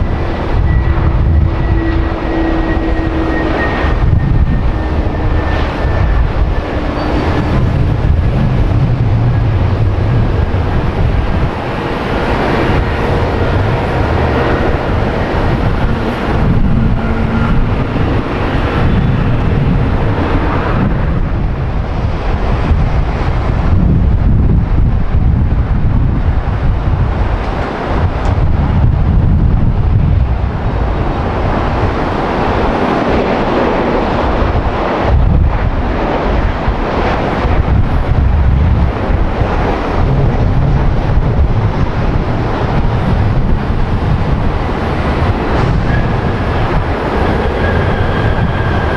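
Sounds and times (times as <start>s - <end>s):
jet engines rumbling: 0.0s - 48.9s
wind buffeting microphone: 0.0s - 48.9s.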